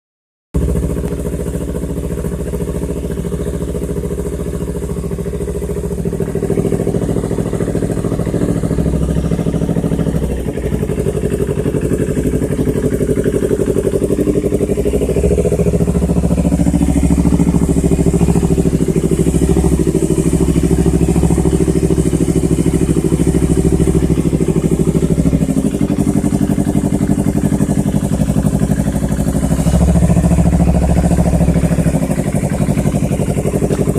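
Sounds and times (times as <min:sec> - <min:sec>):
motorcycle engine idling: 0:00.6 - 0:33.9.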